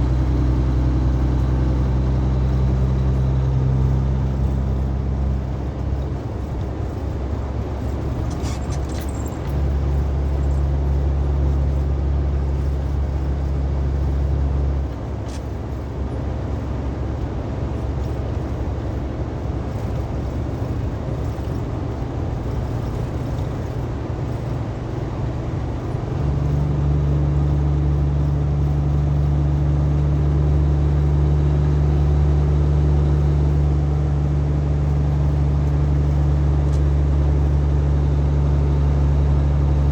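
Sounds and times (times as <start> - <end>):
road noise: 0.0 - 39.9
truck engine droning: 0.0 - 39.9.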